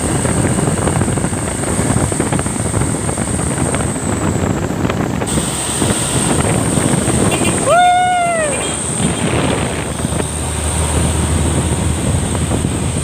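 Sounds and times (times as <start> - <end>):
truck engine and road rumble: 0.0 - 13.0
wind buffeting microphone: 0.0 - 13.0.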